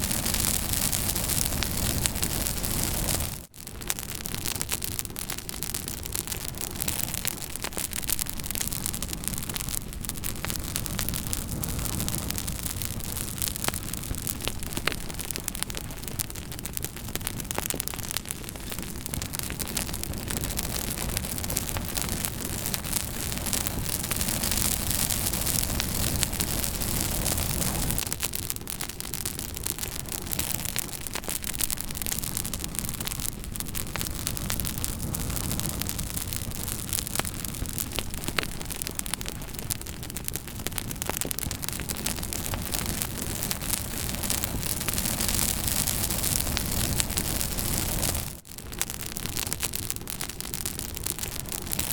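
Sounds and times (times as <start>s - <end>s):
campfire crackling and popping: 0.0s - 51.9s
fire hissing and rumbling: 0.0s - 51.9s.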